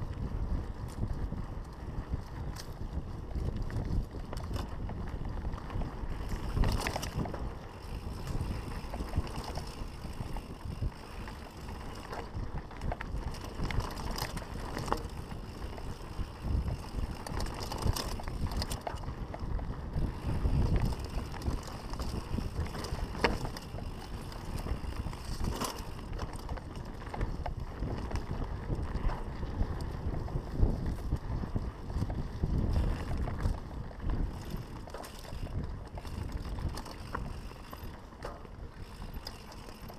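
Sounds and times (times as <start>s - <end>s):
bike clicks and knocks: 0.0s - 39.9s
bike tyres rumbling on dirt: 0.0s - 39.9s
wind buffeting microphone: 0.0s - 39.9s.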